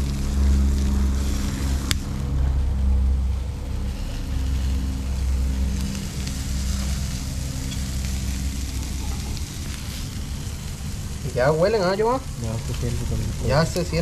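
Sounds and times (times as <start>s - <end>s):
engine humming: 0.0s - 14.0s
meat sizzling on a charcoal grill: 0.0s - 14.0s.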